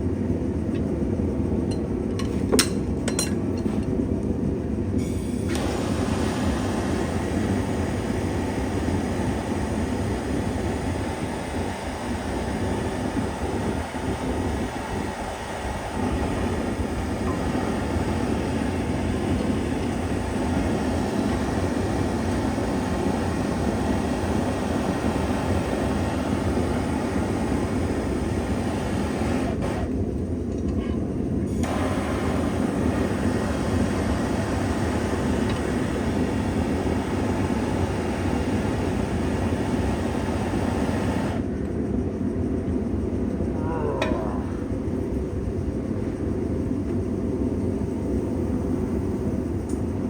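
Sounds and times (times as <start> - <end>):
shop equipment rumbling: 0.0 - 50.0.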